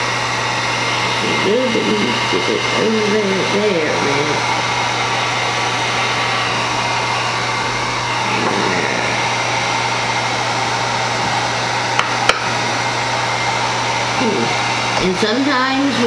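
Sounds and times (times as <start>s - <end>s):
heat gun blowing: 0.0s - 16.0s.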